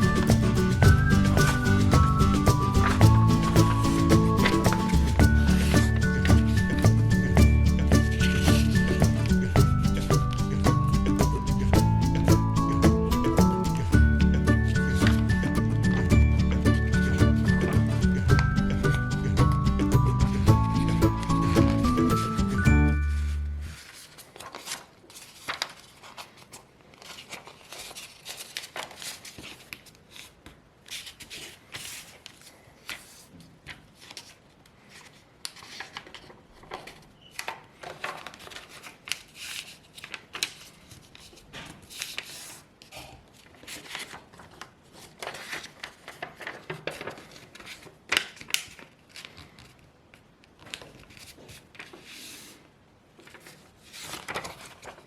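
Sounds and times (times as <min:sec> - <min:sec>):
paper being folded and creased: 0:00.0 - 0:12.5, 0:14.5 - 0:16.0, 0:23.0 - 0:55.0.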